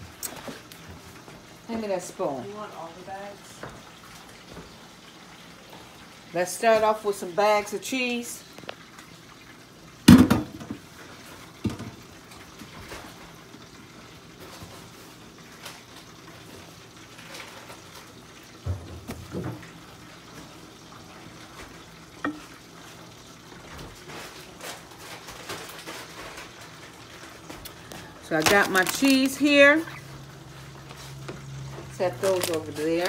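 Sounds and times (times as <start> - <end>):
frying hiss: 0.0 - 33.0.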